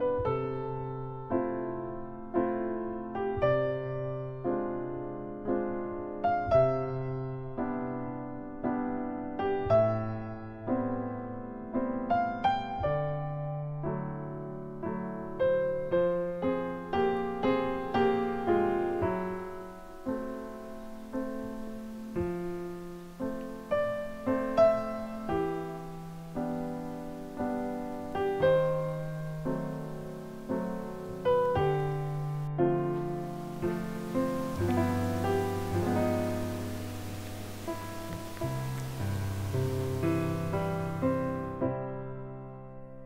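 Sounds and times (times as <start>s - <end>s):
slow solo piano: 0.0s - 43.0s.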